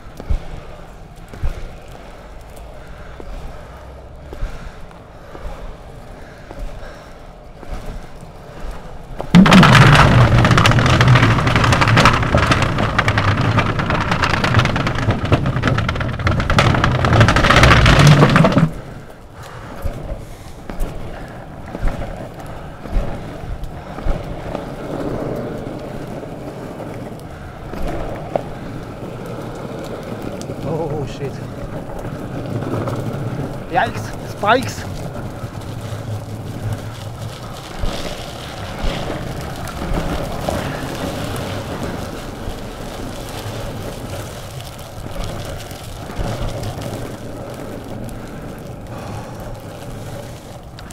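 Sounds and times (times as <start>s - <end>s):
longboard wheels rolling: 0.0s - 50.9s
board rumbling on wooden planks: 2.7s - 50.9s.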